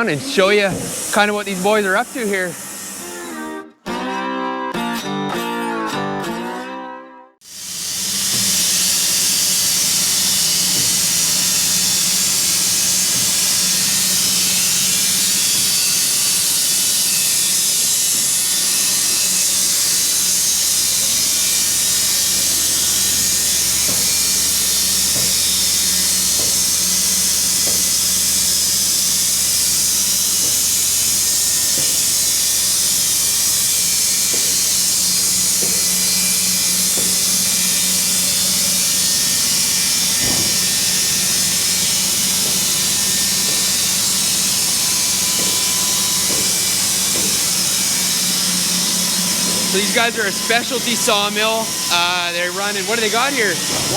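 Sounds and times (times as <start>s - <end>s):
sawmill machinery hiss: 0.0s - 3.6s, 7.4s - 53.9s.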